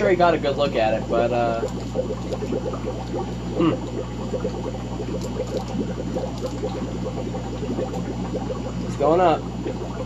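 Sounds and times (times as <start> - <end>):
low equipment hum: 0.0 - 10.0
water trickling and bubbling: 0.0 - 10.0.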